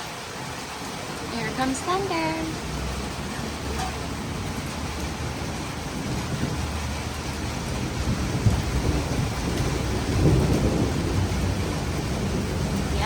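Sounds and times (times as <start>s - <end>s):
heavy steady rain: 0.0s - 13.0s
thunder rumbling: 0.0s - 13.0s.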